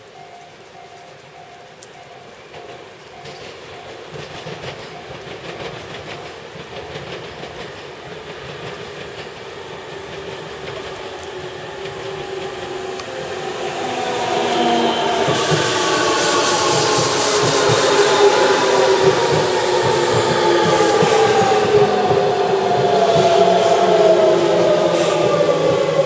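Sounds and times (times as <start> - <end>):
electric train approaching: 0.0 - 26.0
train whine: 0.0 - 26.0
train wheels clicking over rail joints: 0.7 - 26.0.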